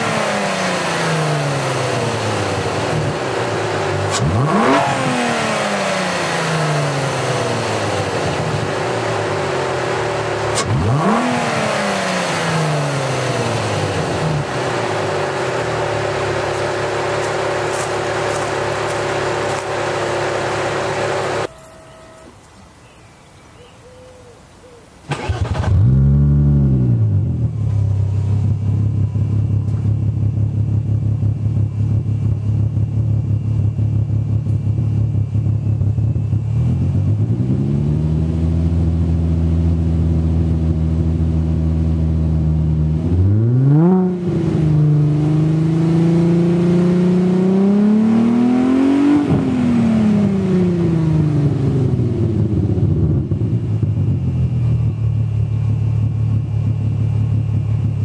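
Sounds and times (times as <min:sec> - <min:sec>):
car engine starting and revving: 0:00.0 - 0:21.5, 0:25.1 - 0:58.0.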